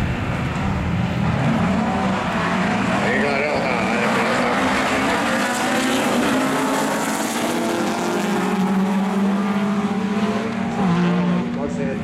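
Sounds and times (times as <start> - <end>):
rally car engines revving: 0.0 - 12.0.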